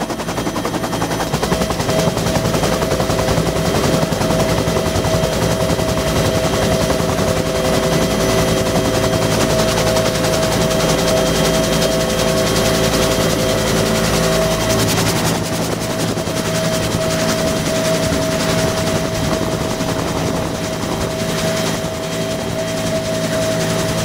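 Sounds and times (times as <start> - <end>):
helicopter rotor thumping: 0.0 - 24.0
helicopter turbine whine: 0.0 - 24.0.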